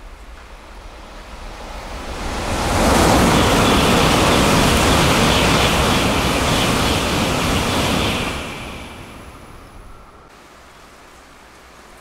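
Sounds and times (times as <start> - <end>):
high speed train rushing past: 0.0 - 10.3.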